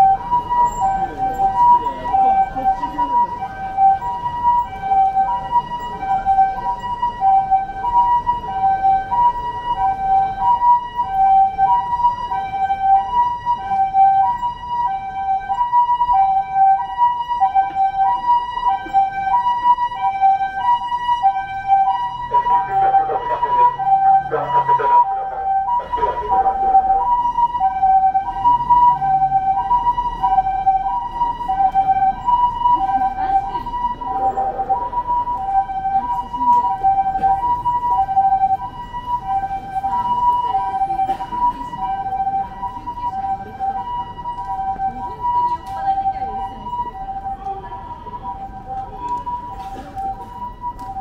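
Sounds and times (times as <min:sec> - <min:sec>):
two-tone ambulance siren: 0:00.0 - 0:51.0.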